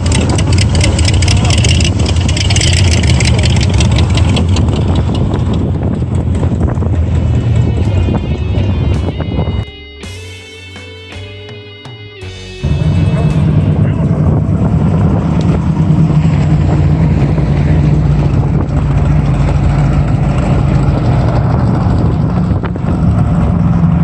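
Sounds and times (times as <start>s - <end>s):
car engine running: 0.0s - 9.6s, 12.3s - 24.0s.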